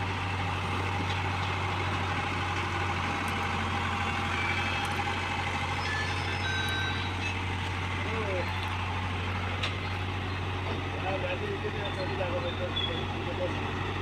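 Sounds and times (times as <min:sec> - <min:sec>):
heavy diesel engine idling: 0:00.0 - 0:14.0.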